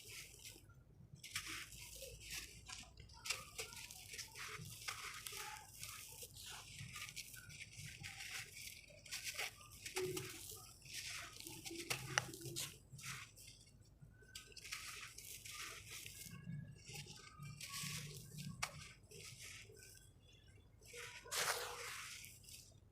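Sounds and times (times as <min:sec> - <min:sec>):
dry sand crumbling and crunching: 0:00.0 - 0:22.9.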